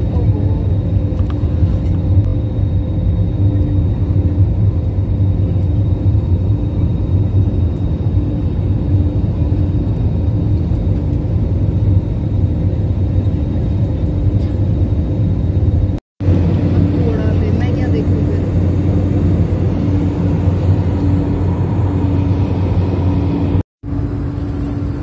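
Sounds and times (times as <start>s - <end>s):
jet engine drone in cabin: 0.0s - 25.0s.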